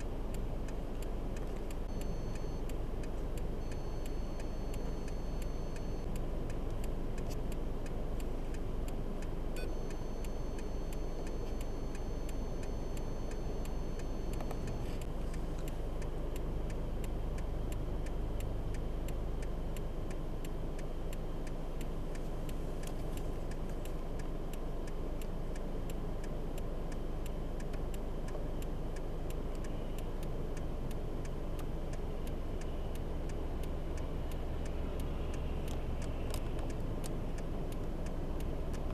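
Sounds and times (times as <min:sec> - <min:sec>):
motor vehicle rumble: 0:00.0 - 0:38.9
sharp regular ticking: 0:00.0 - 0:38.9.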